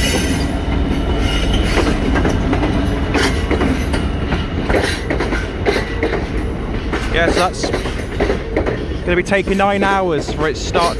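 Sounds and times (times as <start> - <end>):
freight train rumbling past: 0.0 - 10.9
wheels clacking over rail joints: 0.0 - 10.9.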